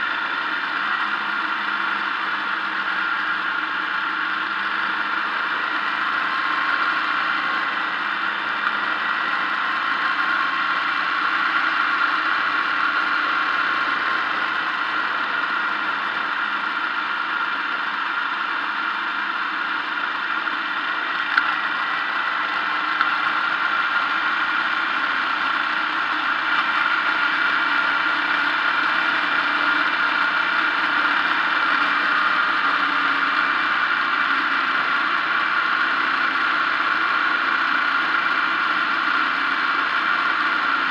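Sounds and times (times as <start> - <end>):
road and wind noise: 0.0 - 40.9
steady whine: 0.0 - 40.9
vehicle engine running: 0.0 - 40.9.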